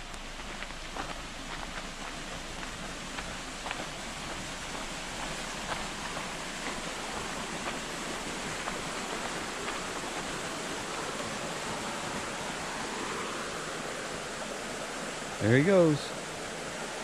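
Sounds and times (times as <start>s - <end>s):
faint footsteps on trail: 0.0s - 15.2s
stream rushing: 0.0s - 17.0s.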